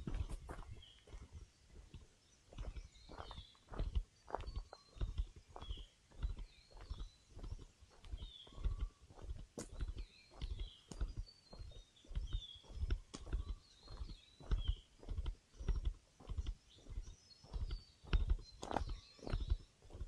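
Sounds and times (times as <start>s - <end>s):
footsteps on forest trail: 0.0s - 20.0s
small birds chirping: 0.0s - 20.0s.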